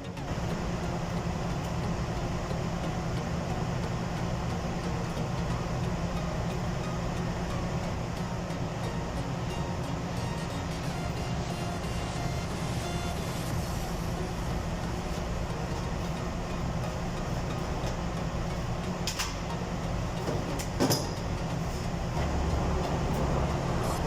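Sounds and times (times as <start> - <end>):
electric water pump humming: 0.0 - 24.0.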